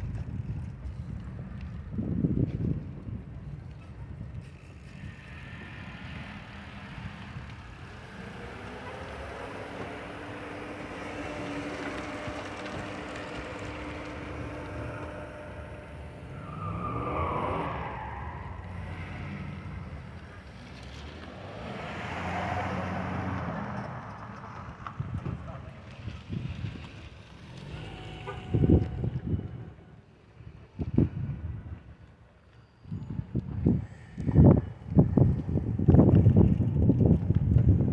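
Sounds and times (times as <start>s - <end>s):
car engines rumbling: 0.0s - 37.9s.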